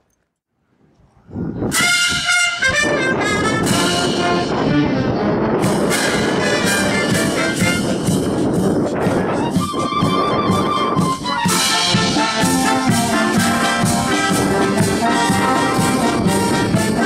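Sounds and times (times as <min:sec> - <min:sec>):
brass band playing a march: 0:01.7 - 0:17.0
steady drum beat: 0:01.8 - 0:04.9, 0:05.6 - 0:17.0.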